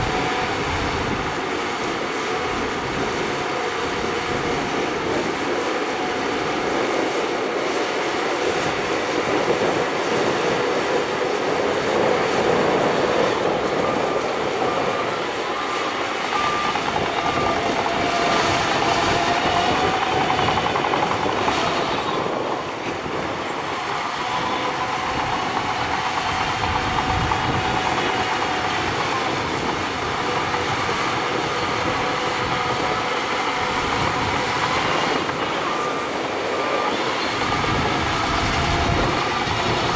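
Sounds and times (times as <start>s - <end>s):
bulldozer diesel engine: 0.0s - 39.9s
high squeals from tracks: 0.0s - 39.9s
steel tracks clattering: 0.0s - 39.9s.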